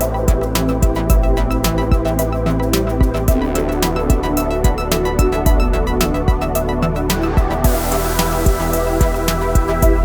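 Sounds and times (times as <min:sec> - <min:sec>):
kick drum: 0:00.0 - 0:02.2, 0:02.8 - 0:06.6, 0:07.2 - 0:10.0
hi-hats: 0:00.0 - 0:10.0.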